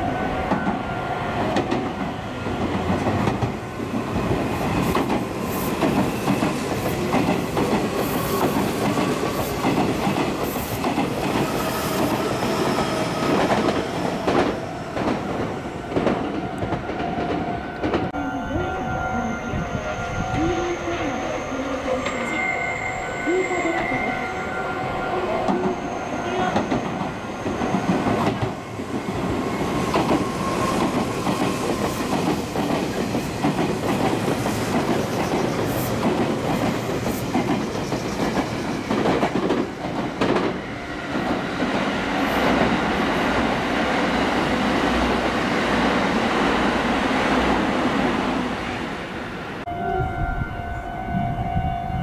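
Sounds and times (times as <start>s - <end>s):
train wheels rushing on rail: 0.0s - 18.2s, 24.8s - 49.7s.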